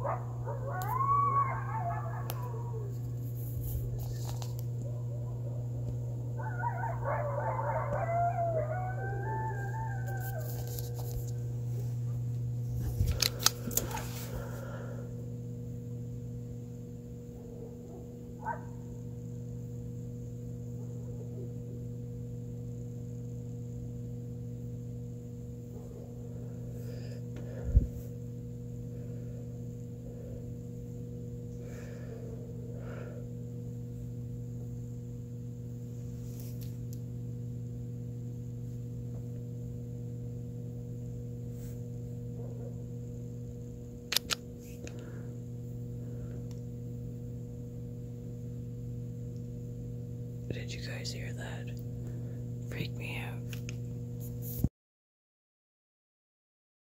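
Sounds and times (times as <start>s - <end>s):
steady low hum: 0.0s - 54.6s.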